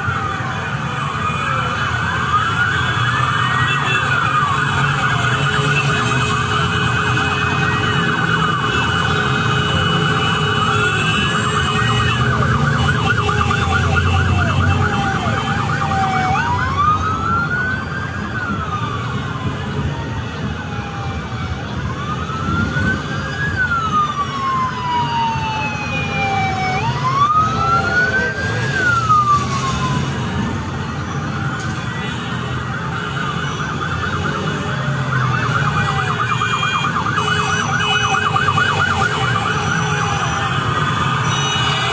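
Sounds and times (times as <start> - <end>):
engine and traffic rumble: 0.0 - 41.9
police sirens: 0.0 - 41.9.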